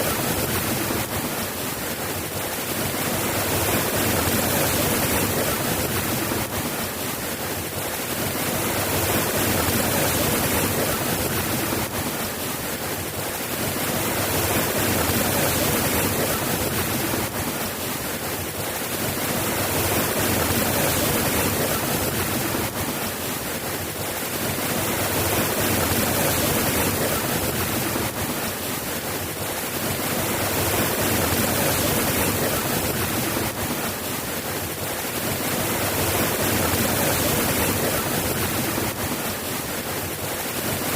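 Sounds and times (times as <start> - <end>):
steady soft rain: 0.0 - 40.9.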